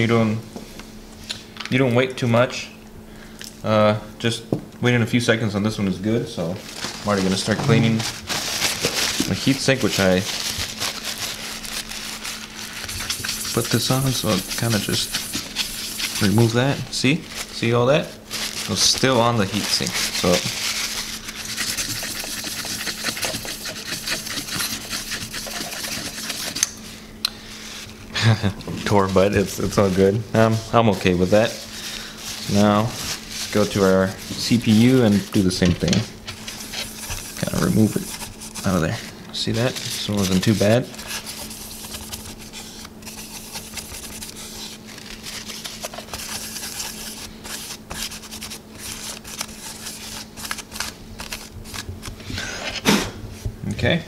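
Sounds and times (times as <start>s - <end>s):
paper scrubbing metal fins: 6.6s - 26.9s, 28.7s - 52.3s.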